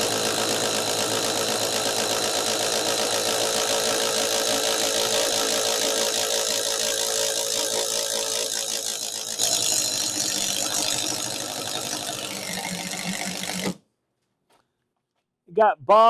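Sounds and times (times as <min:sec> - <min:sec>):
impact driver rattling: 0:00.0 - 0:13.8.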